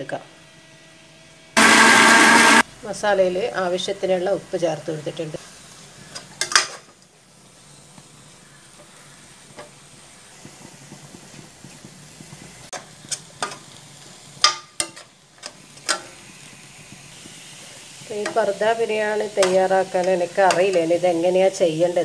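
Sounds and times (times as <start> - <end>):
onions sizzling in a pot: 1.6 - 22.0.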